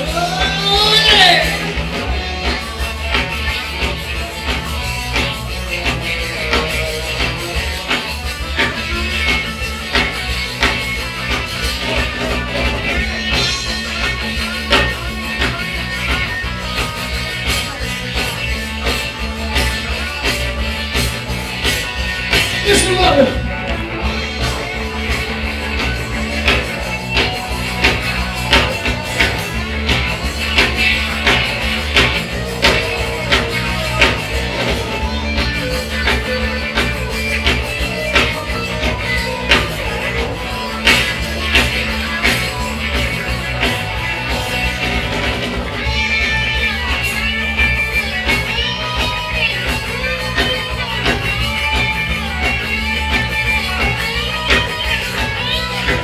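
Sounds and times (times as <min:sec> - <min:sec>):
high held guitar notes: 0:00.0 - 0:56.0
live rock band playing: 0:00.0 - 0:56.0.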